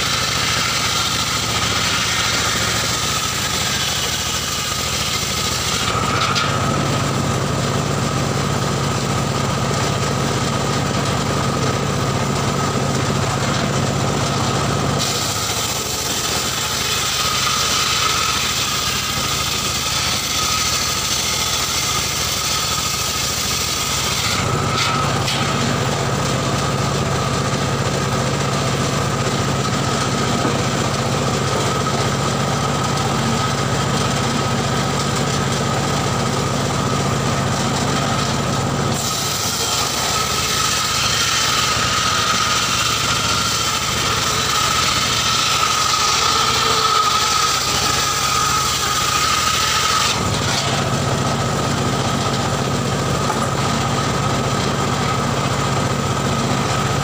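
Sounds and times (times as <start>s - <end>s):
saw blade cutting log: 0.0s - 57.0s
saw engine running: 0.0s - 57.0s.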